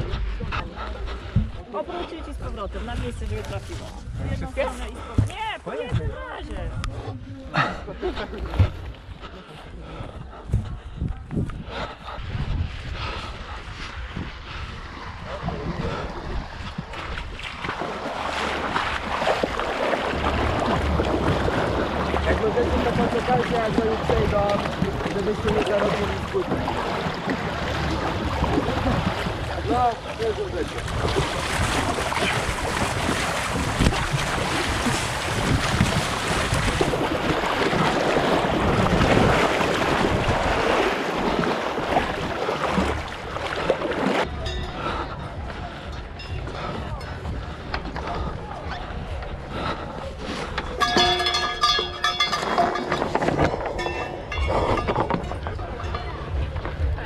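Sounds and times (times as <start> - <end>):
wind buffeting microphone: 0.0 - 7.3, 8.0 - 57.0
water splashing and churning: 0.0 - 57.0.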